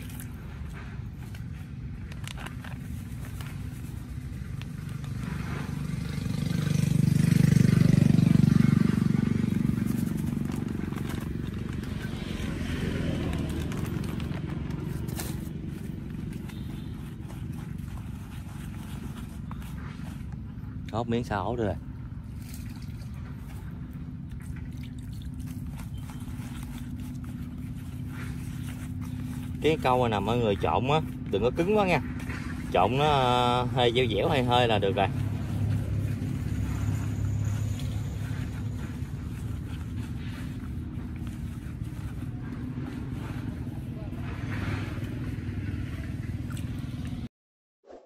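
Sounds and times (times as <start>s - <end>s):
engine pulsing hum: 0.0s - 47.3s
hands squelching wet bait: 0.0s - 47.3s.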